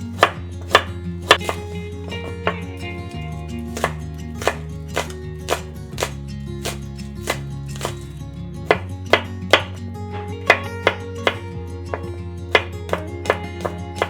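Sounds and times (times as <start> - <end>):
knife chopping on cutting board: 0.0 - 9.8, 10.4 - 14.0.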